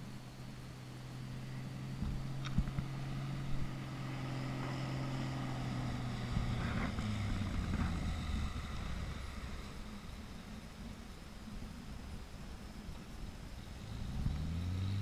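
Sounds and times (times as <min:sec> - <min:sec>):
propeller plane engine droning: 0:00.0 - 0:14.9.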